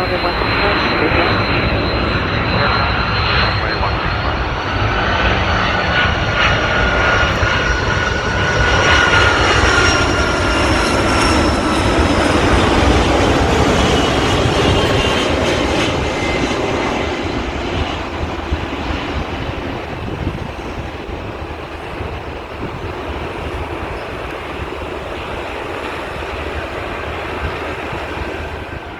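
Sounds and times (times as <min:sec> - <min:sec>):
jet engine whine passing: 0:00.0 - 0:28.9.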